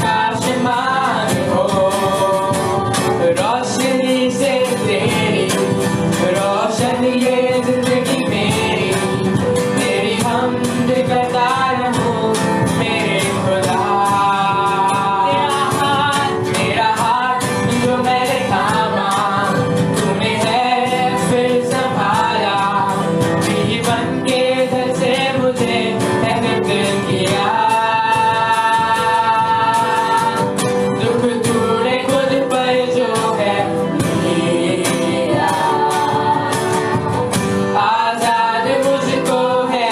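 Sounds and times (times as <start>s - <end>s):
band playing: 0.0s - 39.9s
lead singer singing: 0.0s - 39.9s
steady drum beat: 0.0s - 39.9s.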